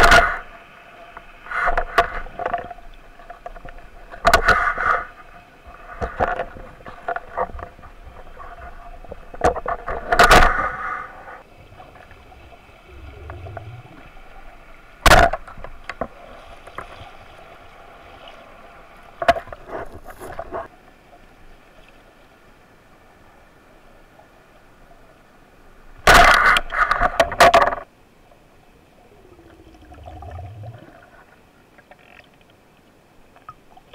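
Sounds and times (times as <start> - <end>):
underwater water noise: 0.0 - 33.9.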